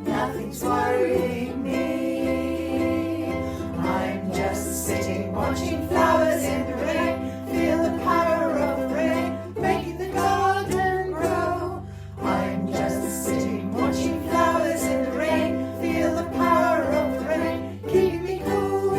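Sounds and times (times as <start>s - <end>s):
person singing: 0.0s - 18.9s
strummed acoustic strings: 0.0s - 18.9s.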